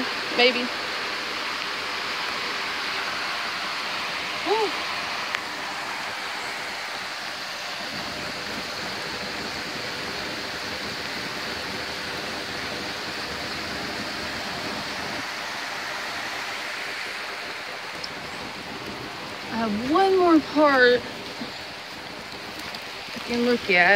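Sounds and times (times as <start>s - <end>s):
creek rushing over rocks: 0.0s - 23.9s.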